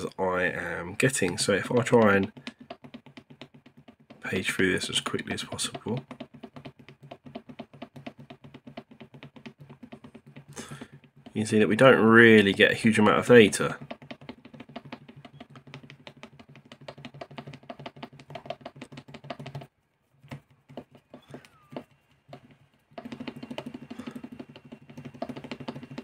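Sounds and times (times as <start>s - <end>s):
keys tapped rapidly clicking: 1.4s - 19.7s, 20.7s - 26.0s.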